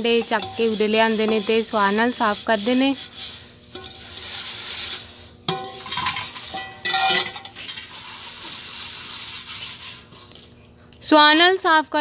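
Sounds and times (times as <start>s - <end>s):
gritty scrubbing of pots: 0.0s - 10.6s.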